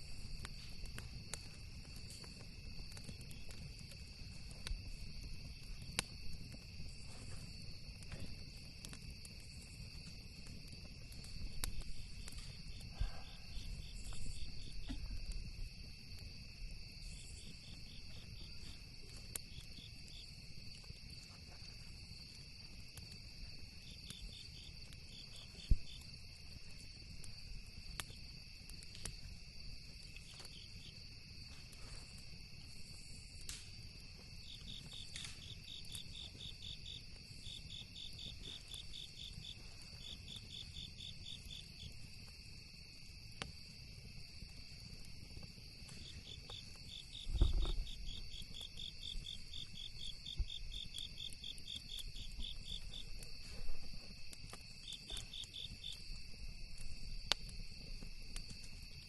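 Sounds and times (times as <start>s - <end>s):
campfire popping and crackling: 0.0s - 59.0s
crickets trilling: 0.0s - 59.0s.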